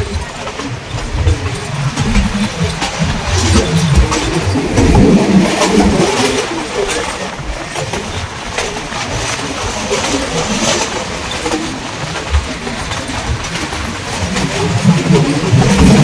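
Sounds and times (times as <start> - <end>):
train carriage rumble and rattle: 0.0 - 16.0.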